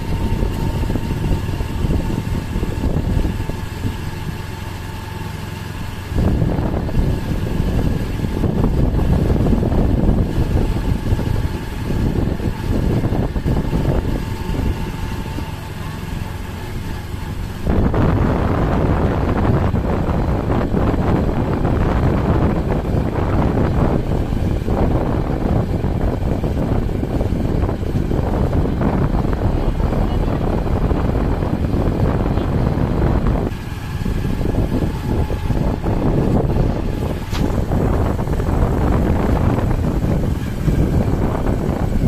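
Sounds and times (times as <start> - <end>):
vehicle road noise: 0.0 - 42.0.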